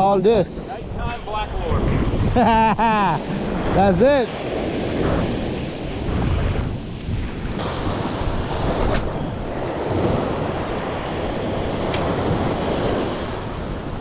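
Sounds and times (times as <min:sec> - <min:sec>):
wind buffeting microphone: 0:00.0 - 0:14.0
surf waves breaking: 0:00.8 - 0:14.0.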